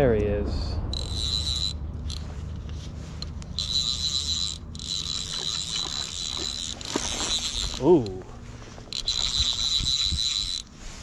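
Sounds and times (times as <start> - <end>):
fishing reel drag buzzing: 0.9 - 11.0.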